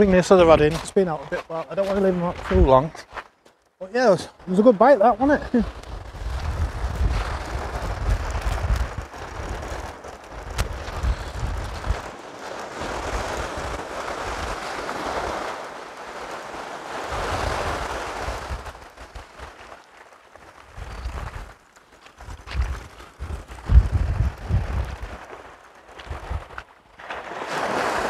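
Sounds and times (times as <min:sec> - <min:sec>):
waves washing over shingle: 0:00.0 - 0:02.9, 0:03.8 - 0:28.0
wind buffeting microphone: 0:00.0 - 0:03.2, 0:04.4 - 0:26.8.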